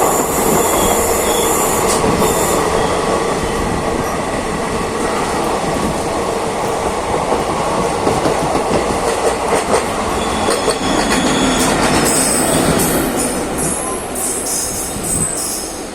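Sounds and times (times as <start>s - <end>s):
train rumbling on rails: 0.0s - 15.9s.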